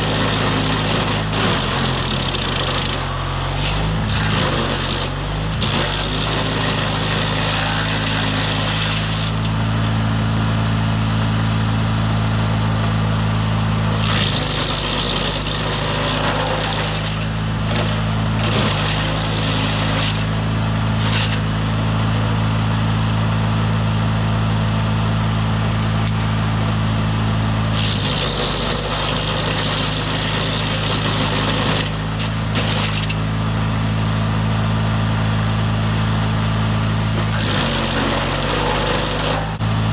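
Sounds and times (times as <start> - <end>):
wood being shredded: 0.0 - 39.9
wood chipper engine running: 0.0 - 39.9.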